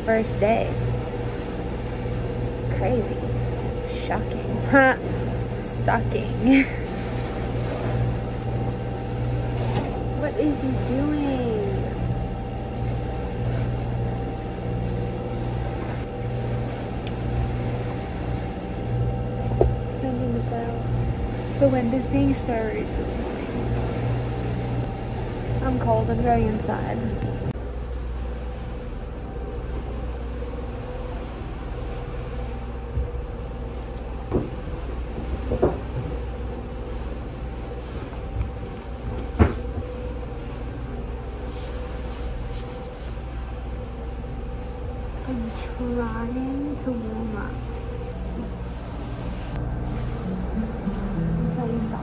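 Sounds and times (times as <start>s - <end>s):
boat engine droning: 0.0s - 52.0s
faint steady hum: 0.0s - 52.0s.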